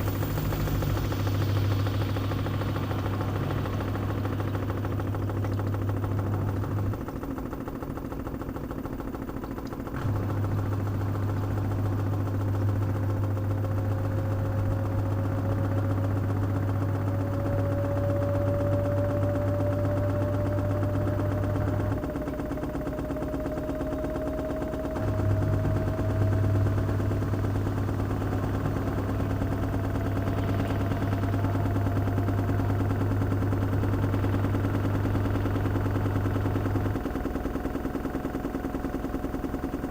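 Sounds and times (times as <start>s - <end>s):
low hum: 0.0s - 7.3s, 10.0s - 39.9s
washing machine motor whine: 0.0s - 39.9s.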